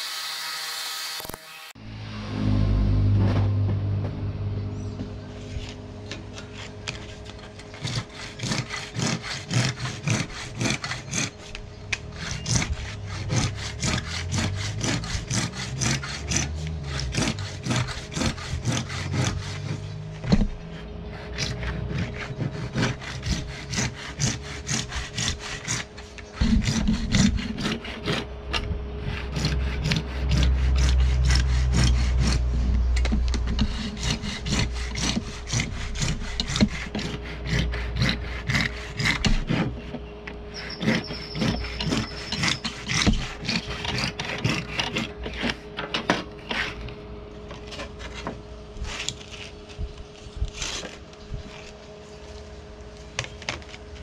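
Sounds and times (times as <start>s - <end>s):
hand sawing wood: 5.4s - 51.9s.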